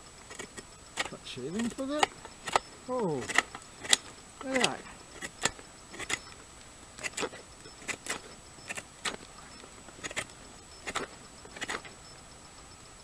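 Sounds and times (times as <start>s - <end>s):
knife scraping wood: 0.0s - 12.0s.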